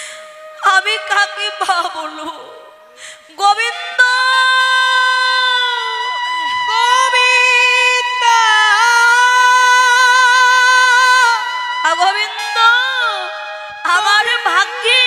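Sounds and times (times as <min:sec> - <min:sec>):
woman singing long held notes: 0:00.0 - 0:15.0.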